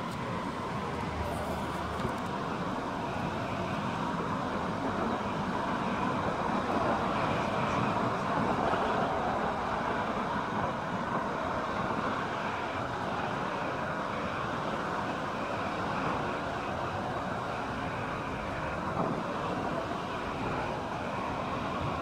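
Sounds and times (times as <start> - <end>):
busy road traffic: 0.0 - 22.0.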